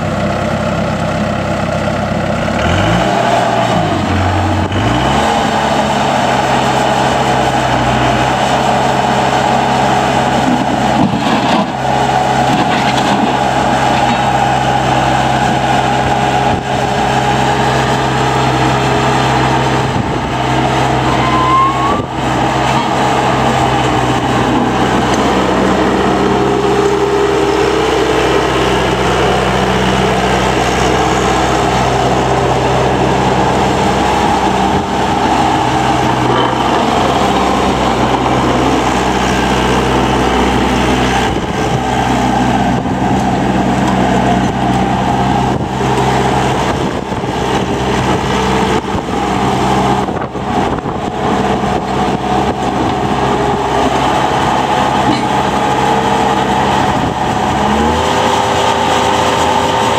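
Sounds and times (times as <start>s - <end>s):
diesel loader engine running: 0.0s - 59.9s.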